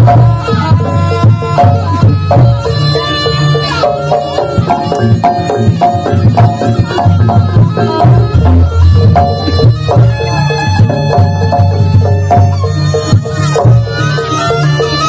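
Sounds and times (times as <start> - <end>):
hand drum strokes: 0.0 - 15.0
held melody line: 0.0 - 15.0
repeating percussion beats: 0.0 - 15.0.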